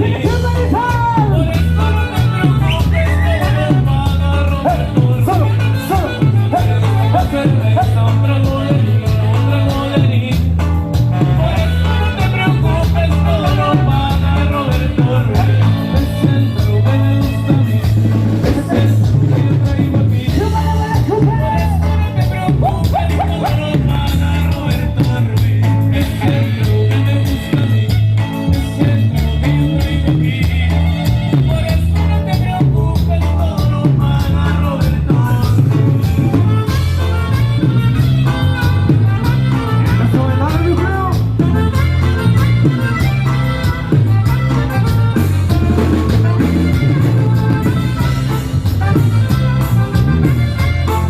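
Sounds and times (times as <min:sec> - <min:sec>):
band melody: 0:00.0 - 0:51.0
bass line: 0:00.0 - 0:51.0.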